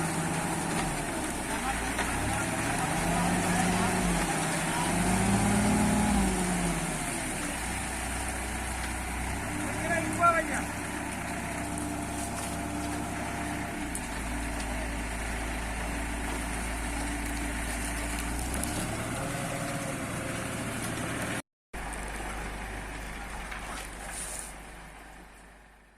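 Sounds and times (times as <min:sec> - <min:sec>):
concrete mixer engine idling: 0:00.0 - 0:05.4, 0:06.7 - 0:25.9.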